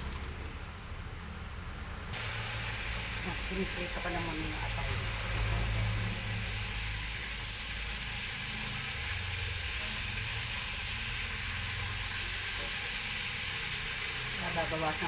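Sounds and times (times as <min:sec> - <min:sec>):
liver sizzling in hot oil: 0:02.1 - 0:15.0.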